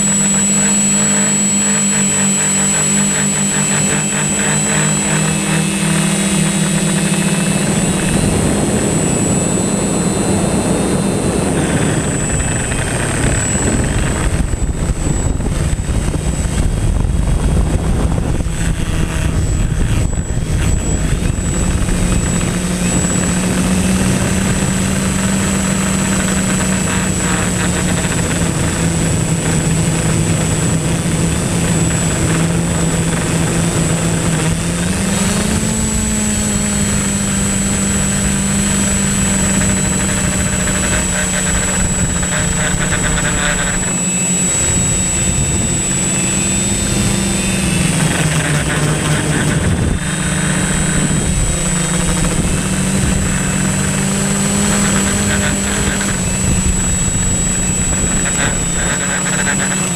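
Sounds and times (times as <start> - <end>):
drone propellers whirring: 0.0 - 59.9
wind rumbling on microphone: 0.0 - 59.9.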